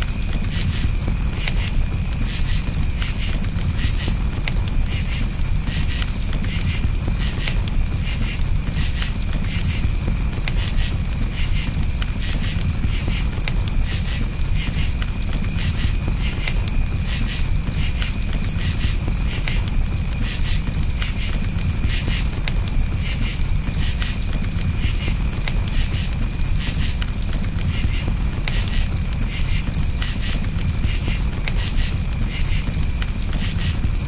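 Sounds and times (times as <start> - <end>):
burning wood crackling: 0.0 - 34.0
campfire low rumble: 0.0 - 34.0
crickets chirping: 0.0 - 34.0.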